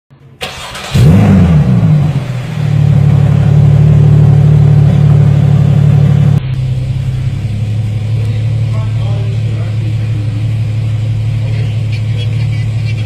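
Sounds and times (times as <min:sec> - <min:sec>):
car engine starting and idling: 0:00.1 - 0:13.0.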